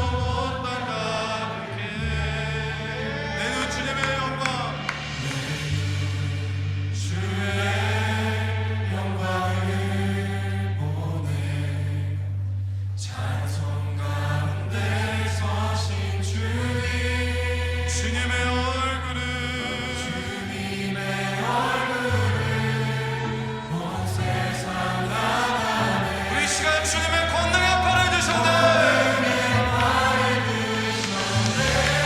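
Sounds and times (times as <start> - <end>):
choir-like sustained chords: 0.0 - 32.0
long-held bass notes: 0.0 - 32.0
slow worship backing track: 0.0 - 32.0.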